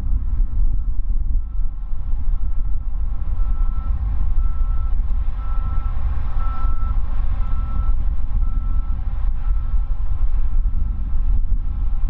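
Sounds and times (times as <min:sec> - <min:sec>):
distant jet airliner rumble: 0:00.0 - 0:12.0.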